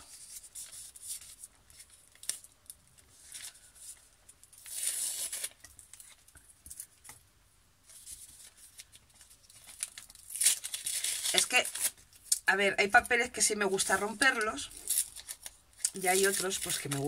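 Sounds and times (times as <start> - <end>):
paper envelope rustling: 0.0 - 7.2, 7.8 - 12.3, 13.8 - 17.0.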